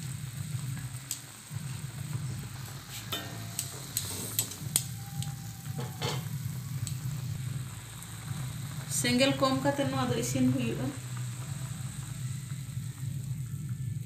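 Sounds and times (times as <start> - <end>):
mixture sizzling in hot oil: 0.0 - 14.0.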